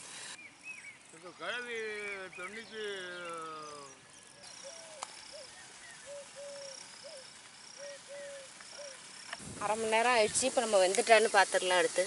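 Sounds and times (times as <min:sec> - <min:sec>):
short chirping calls: 0:00.0 - 0:11.8.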